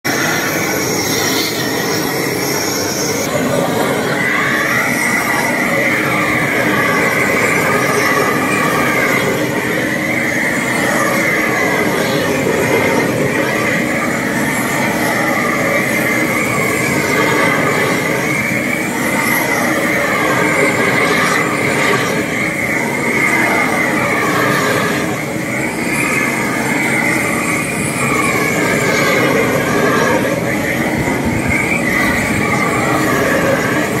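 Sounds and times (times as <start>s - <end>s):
gas torch hissing and whistling: 0.0s - 34.0s.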